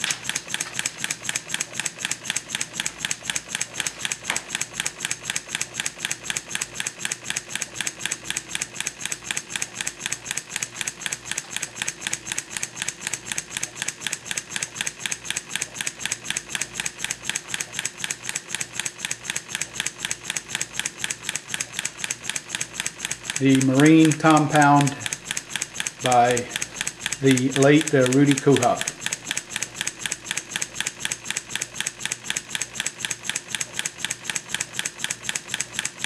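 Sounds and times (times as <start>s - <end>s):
model steam engine clicking: 0.0s - 36.0s.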